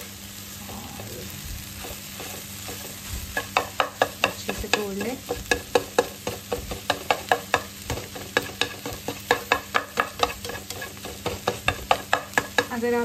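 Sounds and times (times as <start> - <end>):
food sizzling: 0.0 - 13.0
spatula knocking on frying pan: 1.8 - 13.0.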